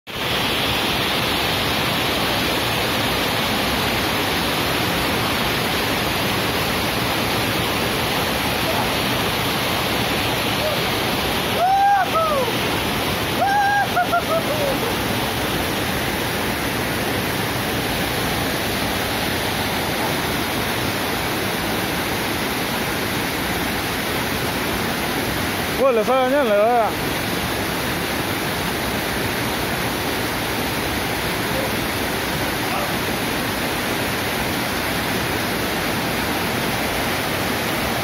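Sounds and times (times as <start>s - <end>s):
stream pouring over boulders: 0.1s - 38.0s.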